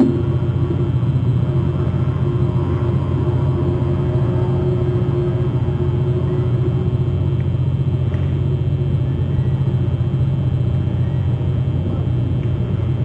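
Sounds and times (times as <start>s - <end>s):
speedboat engine droning: 0.0s - 13.0s.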